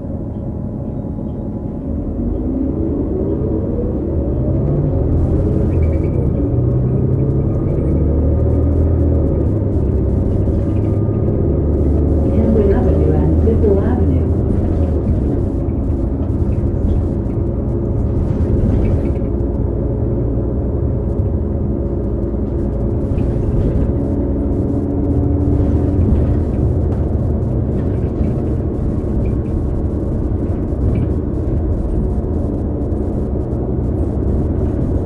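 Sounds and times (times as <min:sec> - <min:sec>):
bus engine low rumble: 0:00.0 - 0:35.0
transmission whine: 0:00.0 - 0:35.0.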